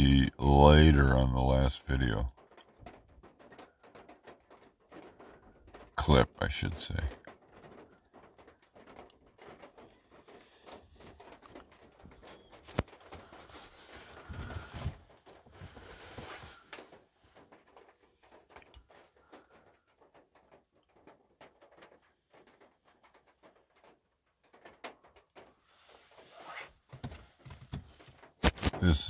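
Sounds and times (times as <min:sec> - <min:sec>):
light rain on vehicle roof: 0:00.0 - 0:29.0.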